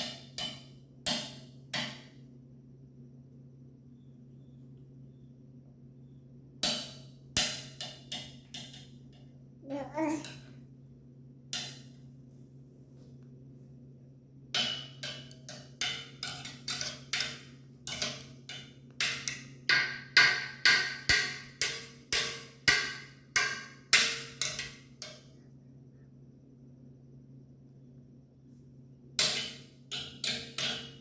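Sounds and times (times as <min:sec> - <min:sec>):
steady low hum: 0:00.0 - 0:20.4, 0:23.3 - 0:31.0.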